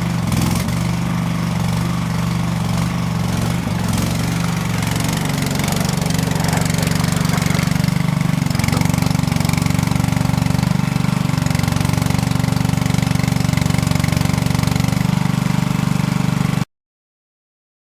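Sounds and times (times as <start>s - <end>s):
loader engine running steadily: 0.0s - 16.6s.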